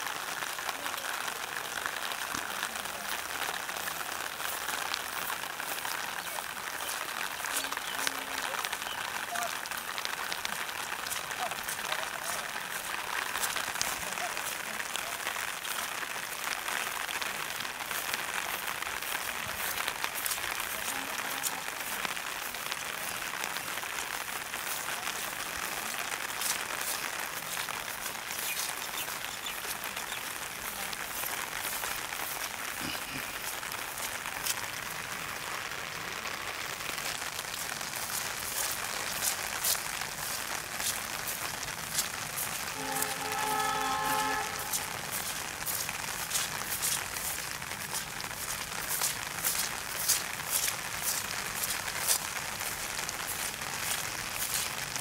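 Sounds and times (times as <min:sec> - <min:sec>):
rain hissing: 0:00.0 - 0:55.0
raindrops ticking: 0:00.0 - 0:55.0.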